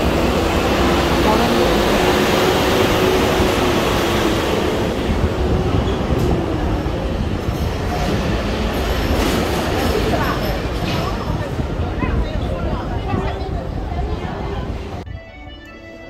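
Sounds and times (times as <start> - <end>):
busy shopping mall noise: 0.0 - 16.0.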